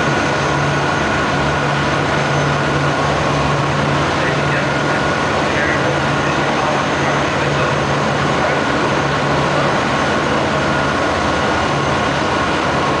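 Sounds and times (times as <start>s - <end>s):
boat engines humming: 0.0s - 13.0s
rushing water noise: 0.0s - 13.0s.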